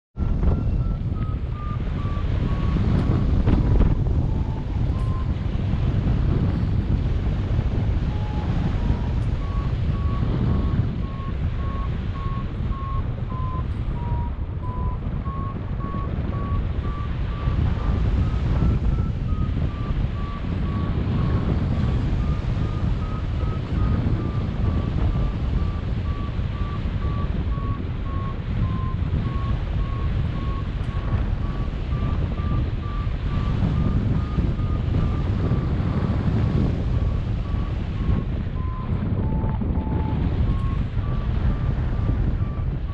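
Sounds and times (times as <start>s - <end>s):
variometer beeping: 0.2s - 42.9s
wind rushing over microphone: 0.2s - 42.9s.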